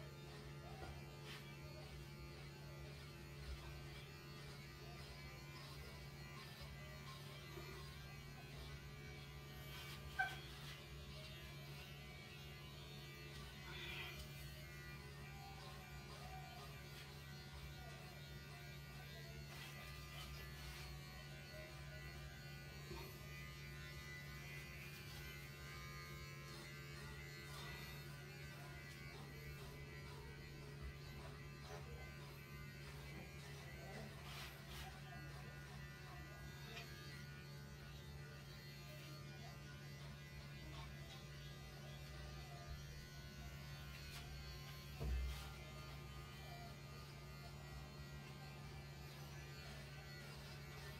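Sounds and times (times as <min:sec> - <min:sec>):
electric hair clipper buzzing: 0:00.0 - 0:50.9.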